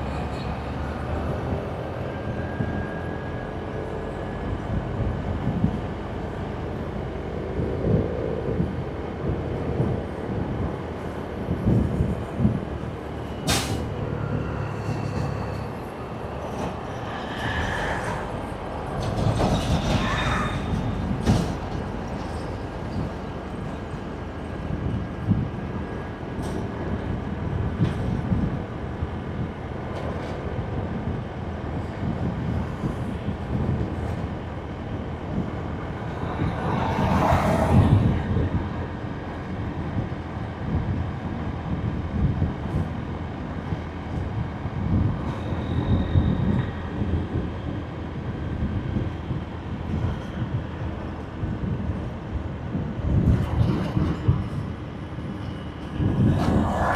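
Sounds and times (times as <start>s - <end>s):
passing traffic: 0.0s - 56.9s
wind on microphone: 7.4s - 13.0s, 14.2s - 56.9s.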